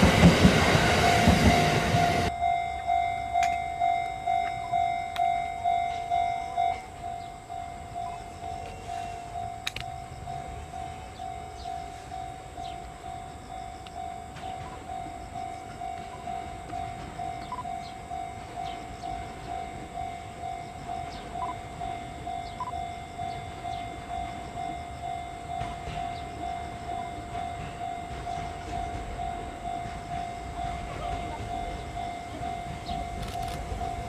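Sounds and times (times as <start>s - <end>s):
electric train rumble: 0.0s - 34.0s
level crossing warning bell: 0.0s - 34.0s.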